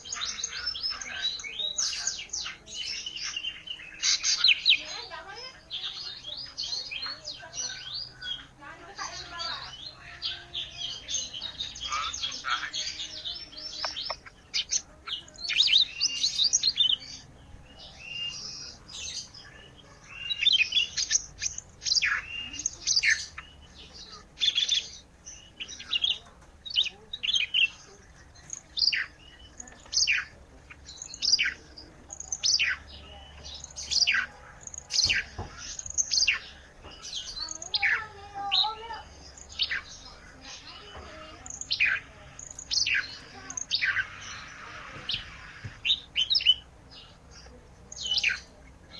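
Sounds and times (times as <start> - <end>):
songbird chattering chirps: 0.0 - 48.9.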